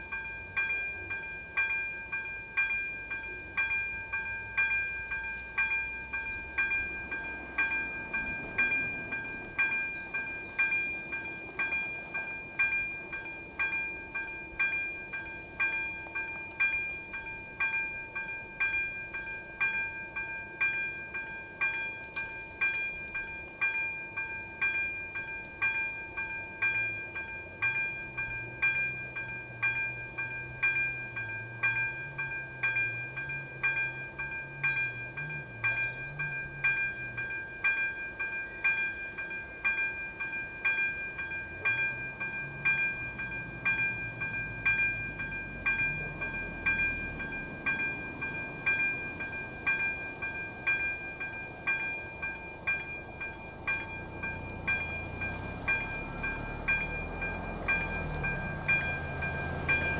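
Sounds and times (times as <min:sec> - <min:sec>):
level crossing warning bell: 0:00.0 - 0:59.9.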